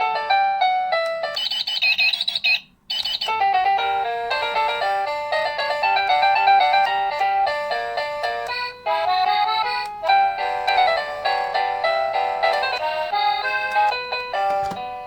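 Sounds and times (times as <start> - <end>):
beeping tune: 0.2 - 15.0.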